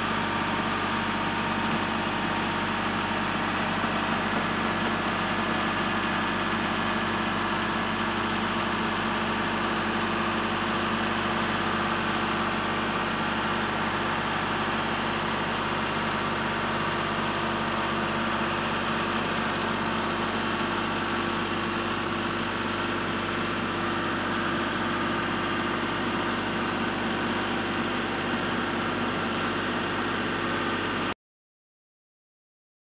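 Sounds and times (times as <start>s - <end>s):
diesel engine running steadily: 0.0s - 31.2s.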